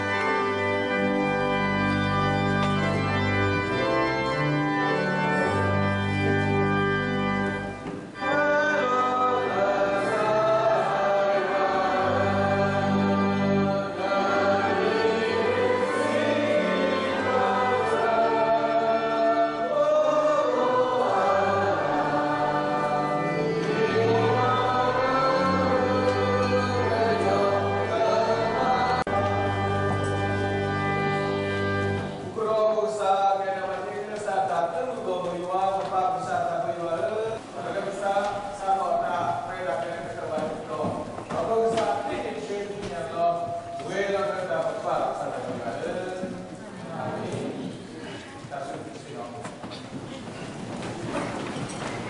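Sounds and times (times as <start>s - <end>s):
organ chords: 0.0s - 47.6s
voices singing a hymn: 0.0s - 47.8s.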